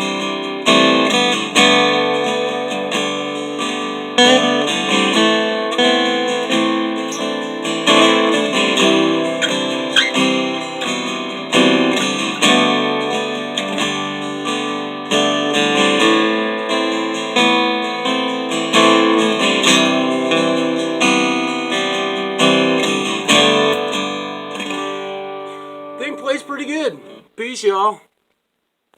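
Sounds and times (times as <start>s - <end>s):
acoustic guitar strumming chords: 0.0s - 27.7s.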